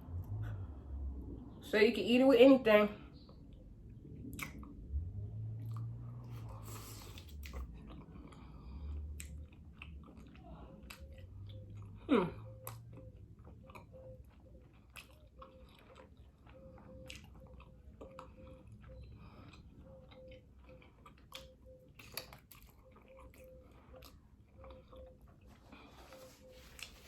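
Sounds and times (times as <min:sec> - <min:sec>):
wet chewing and smacking: 0:03.1 - 0:27.0.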